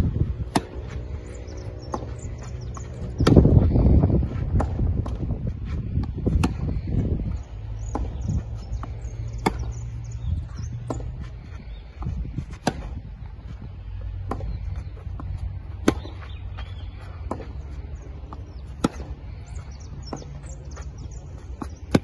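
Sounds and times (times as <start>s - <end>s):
low rumble: 0.0s - 21.7s
tennis racquets hitting ball: 0.0s - 22.0s.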